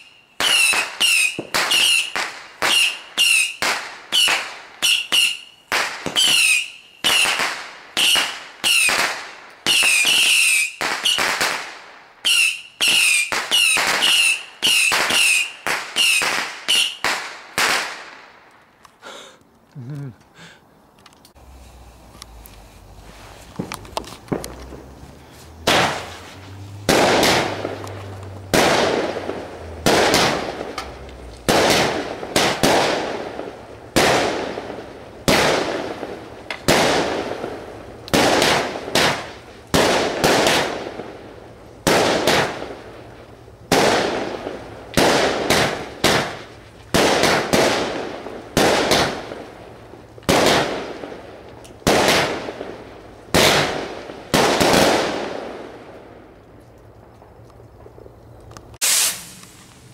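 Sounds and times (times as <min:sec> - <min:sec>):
firework reports: 0:00.0 - 0:18.1, 0:21.4 - 0:56.2, 0:58.8 - 0:59.9.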